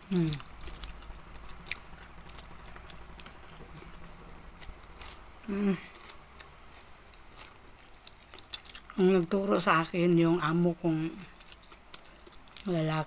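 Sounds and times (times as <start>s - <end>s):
person chewing: 0.0s - 9.0s, 11.1s - 12.7s.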